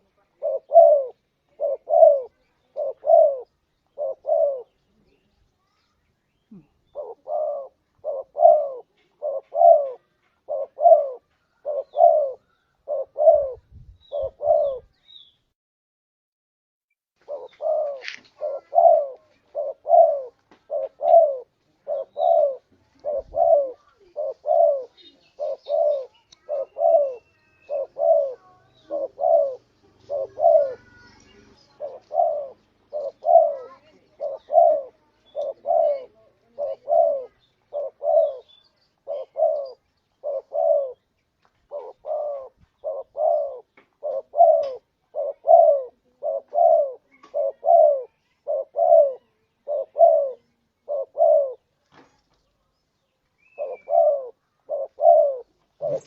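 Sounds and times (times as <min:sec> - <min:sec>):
dove cooing: 0:00.0 - 0:05.2, 0:06.5 - 0:15.0, 0:17.2 - 0:51.7, 0:53.4 - 0:56.0.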